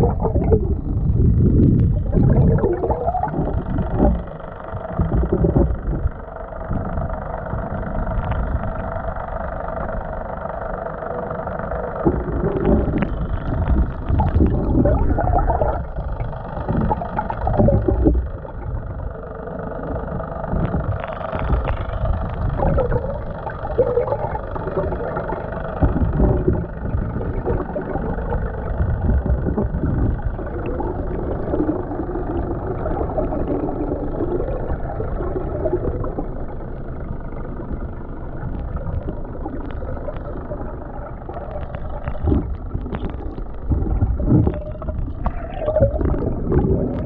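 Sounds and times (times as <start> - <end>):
muffled underwater water rushing: 0.0 - 47.0.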